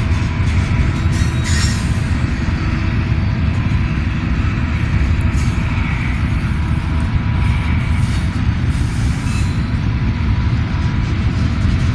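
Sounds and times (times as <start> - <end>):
freight train wheels rumbling: 0.0 - 11.9.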